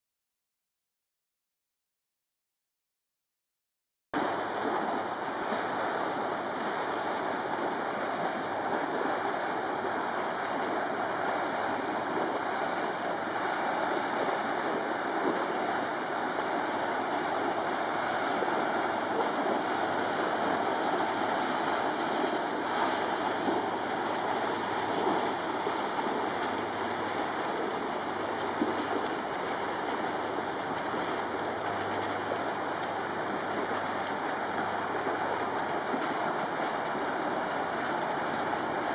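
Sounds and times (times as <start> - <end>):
rushing churned water: 4.2 - 38.9.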